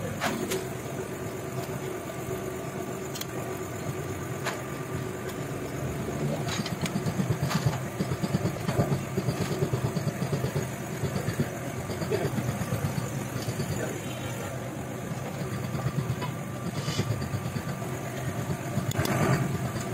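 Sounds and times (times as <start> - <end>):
engine idling with low rumble: 0.0 - 19.9.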